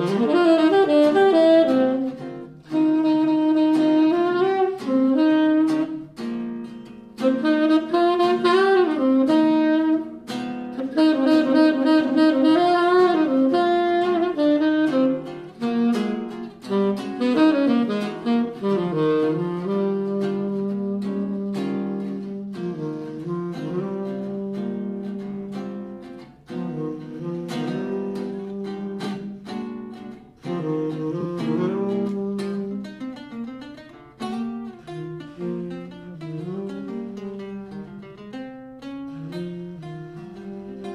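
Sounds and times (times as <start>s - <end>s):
saxophone melody: 0.0s - 40.9s.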